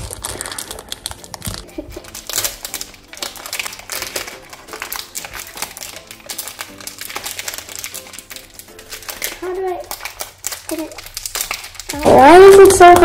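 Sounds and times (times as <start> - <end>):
background music: 0.0 - 13.0
plastic packaging crinkling: 0.0 - 13.0.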